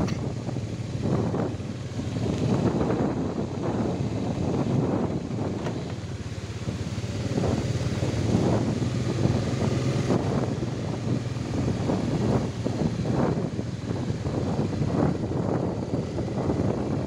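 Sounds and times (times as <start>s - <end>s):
motorcycle engine running: 0.0s - 17.0s
wind gusting on microphone: 0.0s - 17.0s.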